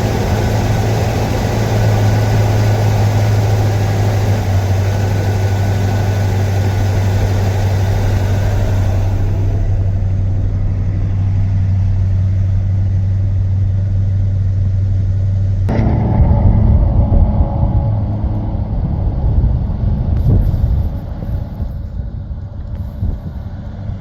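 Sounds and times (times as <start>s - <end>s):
truck driving by: 0.0s - 24.0s
truck engine idling: 0.0s - 24.0s.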